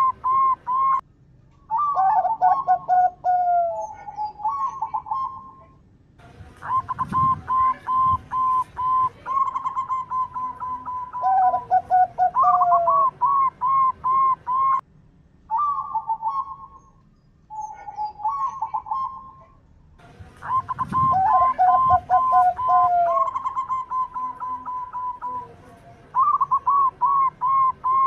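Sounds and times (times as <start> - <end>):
doves cooing: 0.0 - 1.0, 1.7 - 5.8, 6.6 - 14.8, 17.5 - 28.0.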